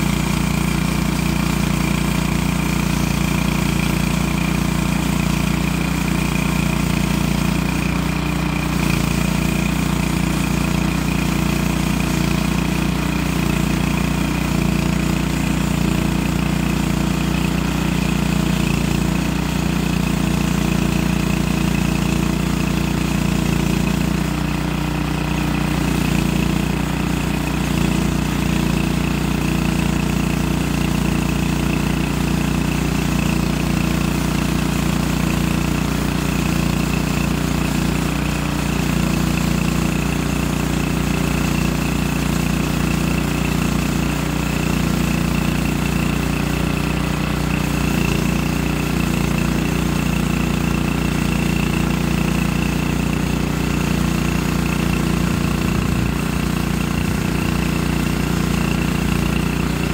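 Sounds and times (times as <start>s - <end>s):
saw blade cutting log: 0.0s - 59.9s
small gas engine running: 0.0s - 59.9s.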